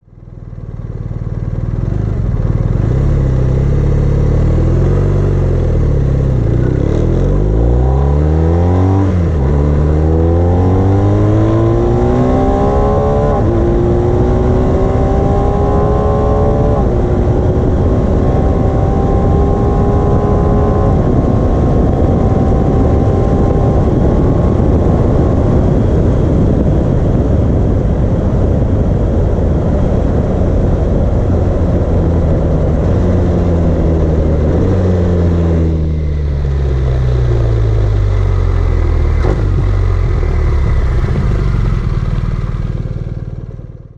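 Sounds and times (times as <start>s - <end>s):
motorcycle engine accelerating: 0.0s - 43.9s
wind noise: 1.2s - 43.9s.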